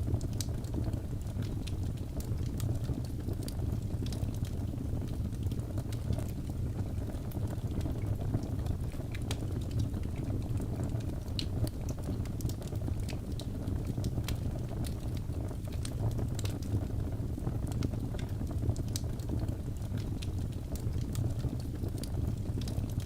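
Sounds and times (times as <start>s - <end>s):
fire flame rumble: 0.0s - 23.0s
logs crackling and popping: 0.0s - 23.0s.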